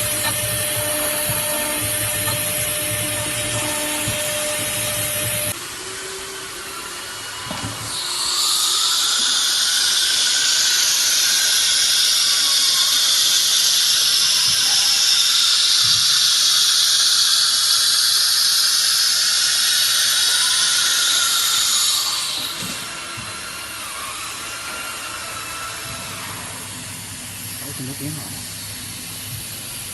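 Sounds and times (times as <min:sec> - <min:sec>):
cnc router high hiss: 0:00.0 - 0:29.9.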